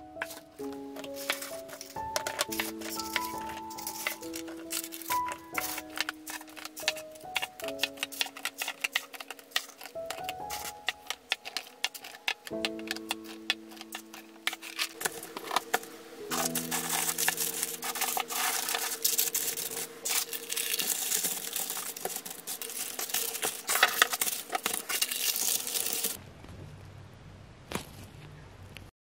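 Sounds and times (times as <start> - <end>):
paper and plastic rustling: 0.0 - 26.2.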